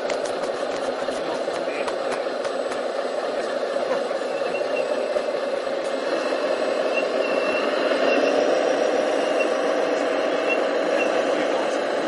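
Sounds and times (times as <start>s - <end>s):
toy truck mechanical hum: 0.0s - 12.0s.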